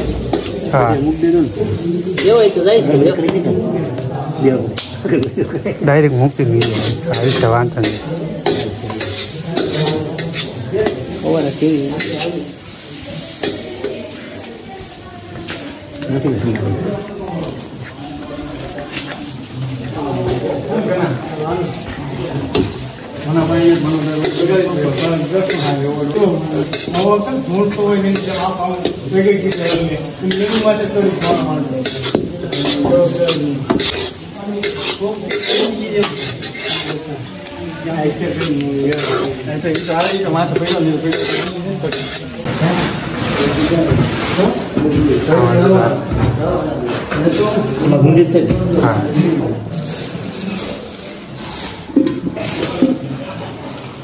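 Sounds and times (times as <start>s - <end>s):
vegetables sizzling in a wok: 0.0s - 54.0s
spatula scraping a pan: 6.4s - 14.6s, 15.4s - 45.4s, 46.9s - 54.0s.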